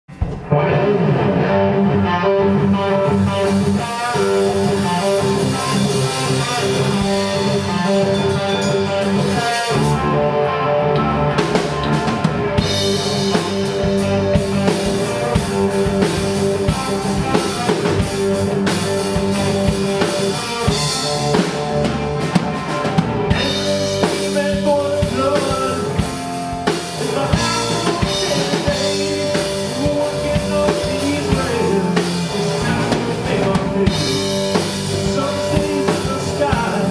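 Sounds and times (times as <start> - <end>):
drum kit: 0.0 - 1.6, 2.5 - 10.4, 11.0 - 36.9
bass guitar: 0.0 - 36.9
electric guitars: 0.1 - 36.9.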